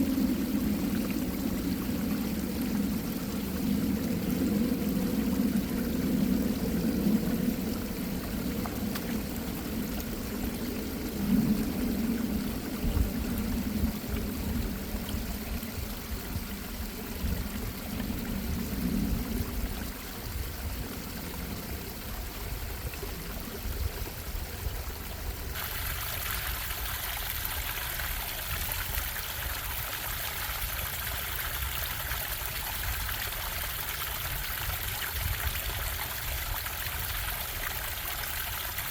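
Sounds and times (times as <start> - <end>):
hissy rush of water: 0.0 - 38.9
stream bubbling over rocks: 0.0 - 38.9.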